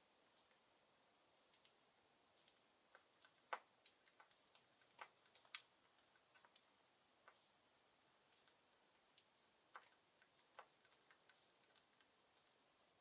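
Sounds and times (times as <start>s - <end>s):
birds pecking at food bowl: 1.4s - 7.5s, 8.2s - 12.6s.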